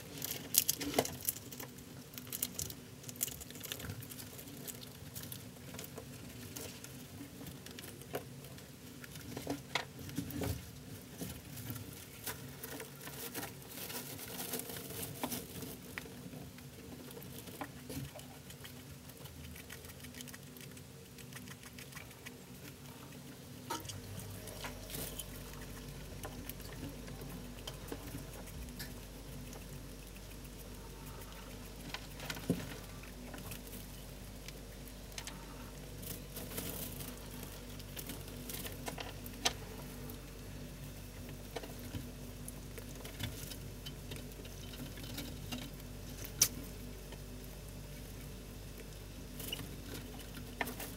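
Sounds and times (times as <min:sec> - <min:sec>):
rat gnawing egg shell: 0:00.0 - 0:50.9.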